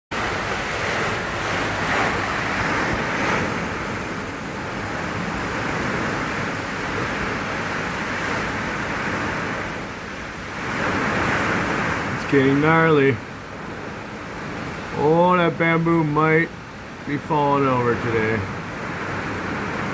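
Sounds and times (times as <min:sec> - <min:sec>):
strong wind gusts: 0:00.1 - 0:19.9
wind buffeting microphone: 0:00.2 - 0:15.8, 0:17.8 - 0:19.9.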